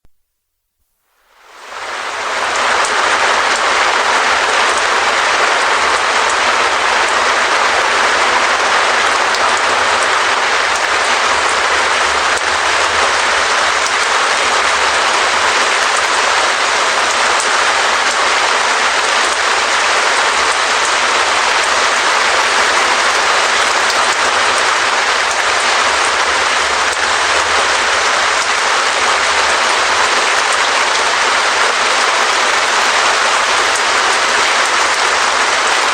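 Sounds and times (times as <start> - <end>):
rain pattering on plastic sheet: 1.2 - 35.9.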